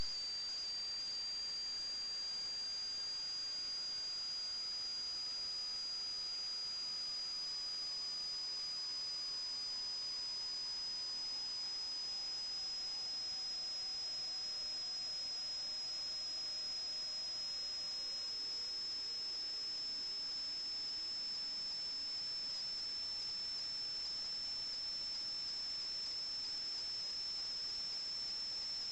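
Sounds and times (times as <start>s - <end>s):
high-pitched electronic whine: 0.0s - 28.9s.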